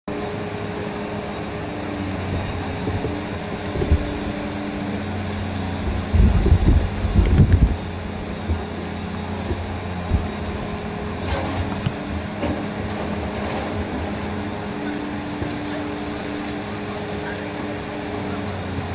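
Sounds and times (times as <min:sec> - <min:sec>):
diesel excavator engine running: 0:00.1 - 0:18.9.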